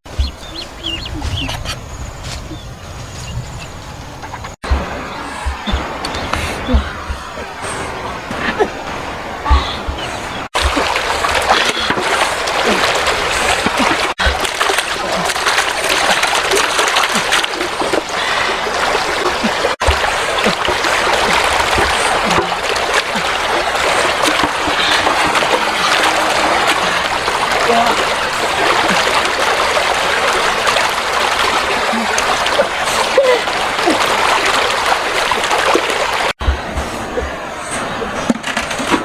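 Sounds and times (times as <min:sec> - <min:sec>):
stream water flowing and splashing: 0:00.0 - 0:39.0.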